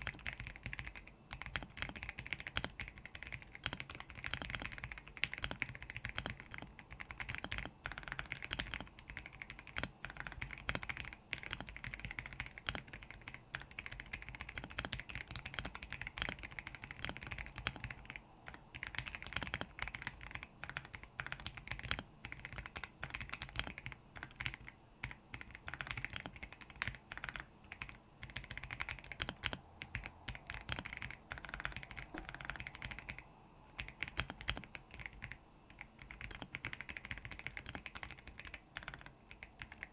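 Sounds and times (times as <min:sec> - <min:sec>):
mechanical keyboard typing: 0:00.0 - 0:33.2, 0:33.8 - 0:39.9.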